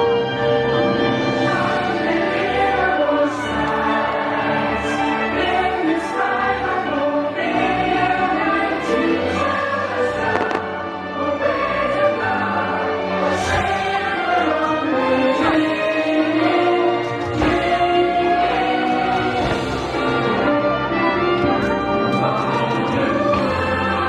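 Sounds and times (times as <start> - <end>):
orchestral music: 0.0 - 24.0
choir singing: 0.8 - 24.0.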